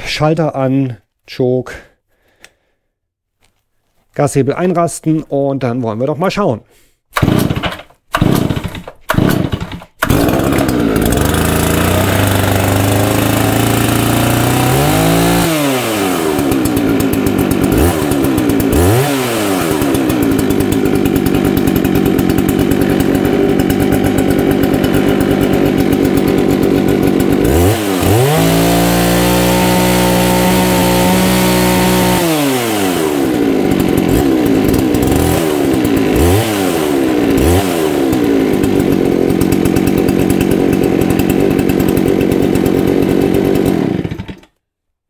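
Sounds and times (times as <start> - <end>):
chainsaw starter pulls: 7.1 - 44.6
chainsaw engine idling: 7.2 - 44.5.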